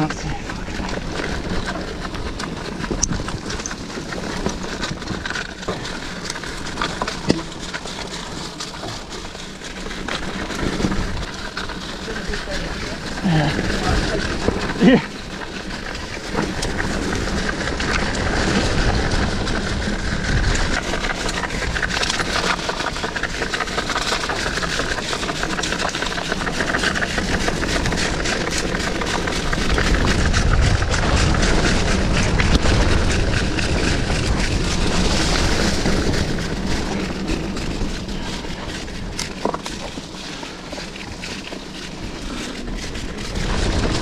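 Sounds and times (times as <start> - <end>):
bike rattling and knocking: 0.0 - 44.0
bike tyres rushing on dirt: 0.0 - 44.0.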